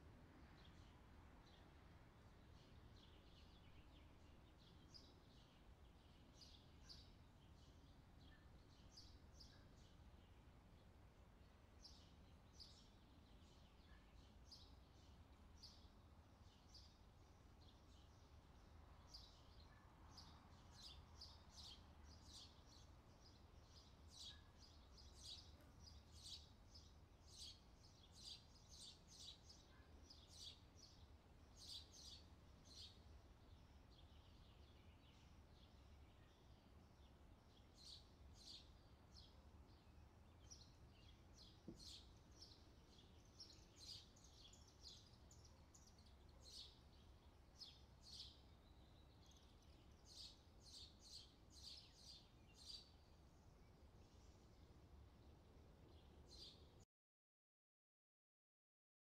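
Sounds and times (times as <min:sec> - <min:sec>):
small birds chirping: 0:00.4 - 0:56.8.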